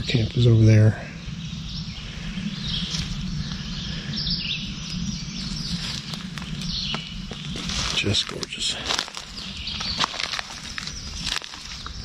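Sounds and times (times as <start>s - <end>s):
low rumble: 0.0s - 12.0s
songbirds chirping and trilling: 0.0s - 12.0s.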